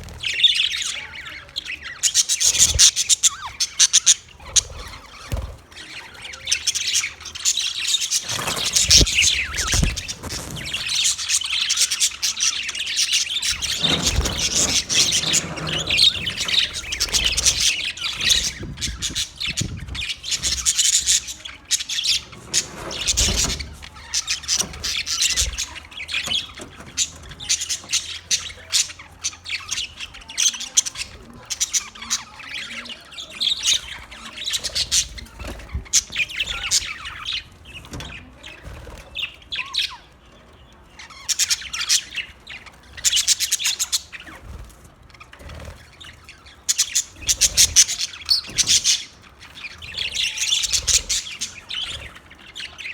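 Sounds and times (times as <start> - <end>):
parrots chirping and squawking: 0.0 - 52.9.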